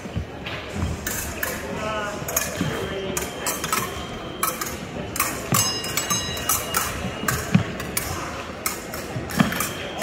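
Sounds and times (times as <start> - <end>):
fencing blades clashing: 0.8 - 10.0.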